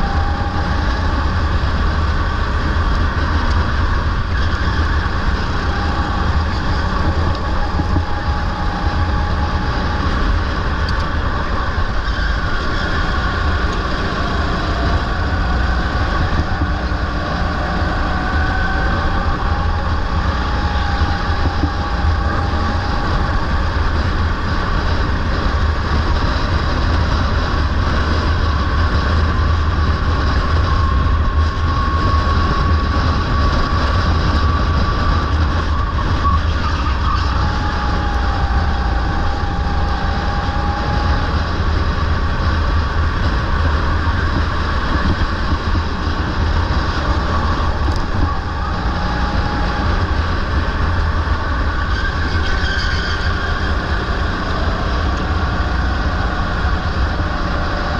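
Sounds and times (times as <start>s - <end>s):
faint engine whine: 0.0s - 57.9s
kart engine running: 0.0s - 57.9s.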